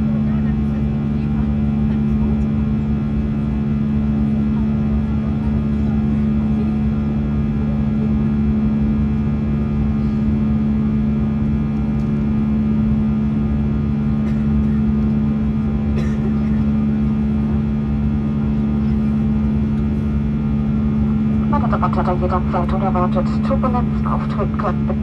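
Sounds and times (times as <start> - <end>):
jet engine and airflow drone: 0.0 - 25.0
steady low hum: 0.0 - 25.0.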